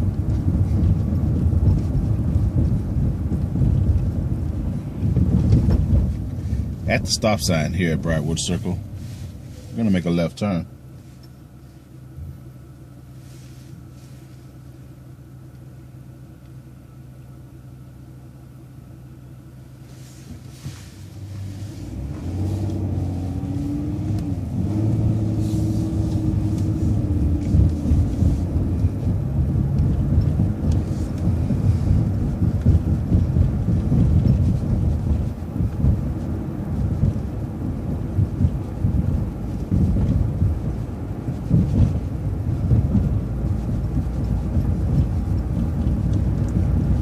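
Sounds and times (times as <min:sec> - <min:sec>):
bus engine idling and accelerating: 0:00.0 - 0:47.0.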